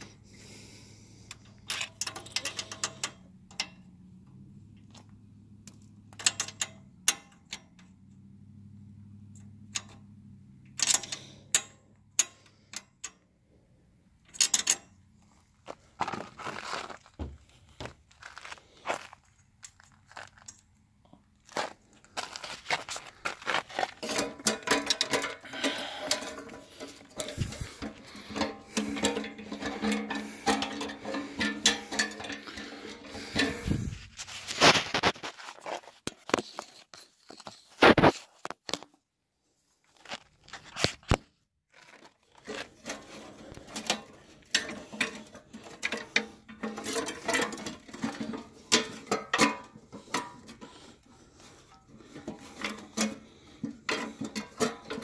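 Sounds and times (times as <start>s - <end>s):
hands and tools clinking on engine: 0.0s - 38.9s, 41.7s - 55.0s.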